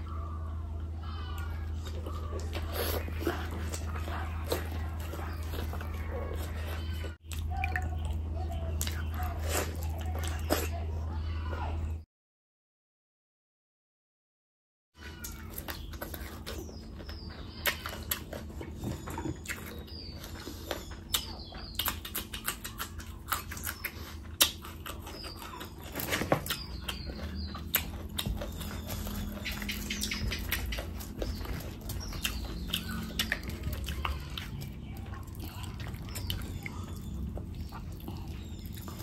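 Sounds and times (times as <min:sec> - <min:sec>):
faint low hum: 0:00.0 - 0:12.0, 0:15.0 - 0:39.0
wet chewing and lip-smacking: 0:01.3 - 0:10.9, 0:15.0 - 0:39.0.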